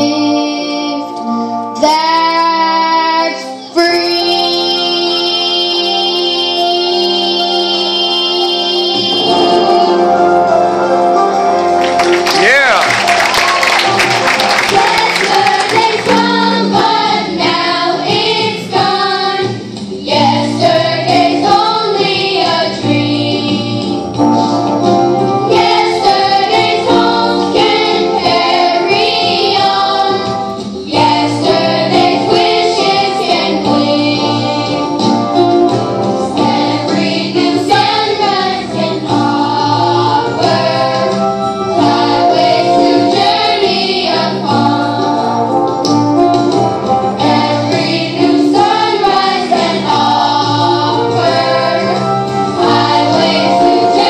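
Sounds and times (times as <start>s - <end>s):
children's choir singing: 0.0s - 1.2s, 1.8s - 12.3s, 13.4s - 45.7s, 47.1s - 54.0s.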